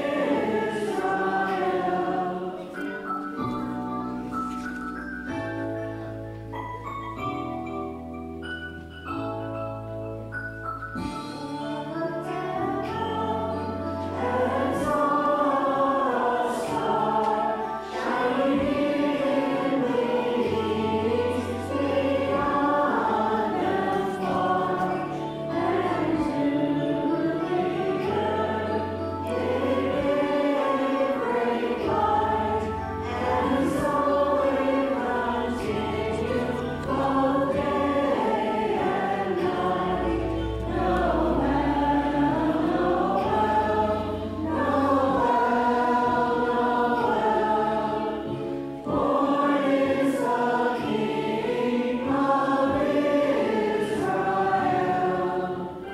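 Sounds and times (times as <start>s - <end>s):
choir singing a carol: 0.0s - 4.4s, 11.0s - 55.9s.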